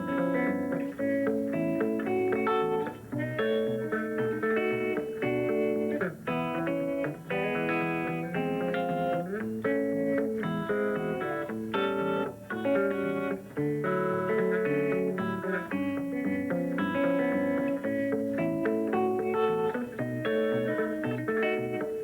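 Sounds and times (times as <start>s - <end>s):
fingerpicked guitar: 0.0s - 22.0s.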